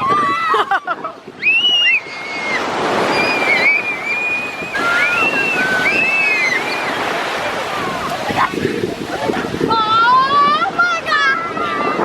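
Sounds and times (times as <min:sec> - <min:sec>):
ocean surf on a beach: 0:00.0 - 0:12.0
wind on the microphone: 0:00.0 - 0:12.0.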